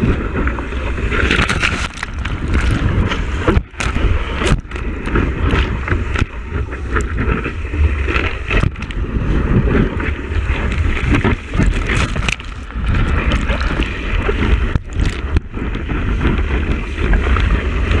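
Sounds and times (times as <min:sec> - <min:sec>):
water rushing: 0:00.0 - 0:18.0
wind buffeting: 0:00.0 - 0:18.0.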